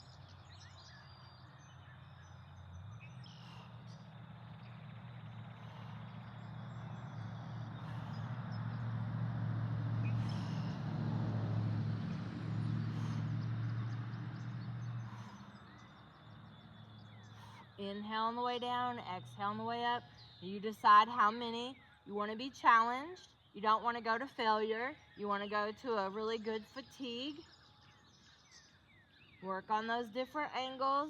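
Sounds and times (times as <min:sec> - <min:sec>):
faint birds chirping: 0:00.0 - 0:31.0.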